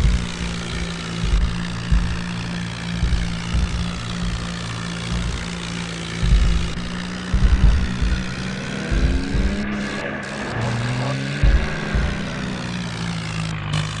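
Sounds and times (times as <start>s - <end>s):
deep low thumps: 0.0s - 13.2s
tractor diesel engine: 0.0s - 14.0s.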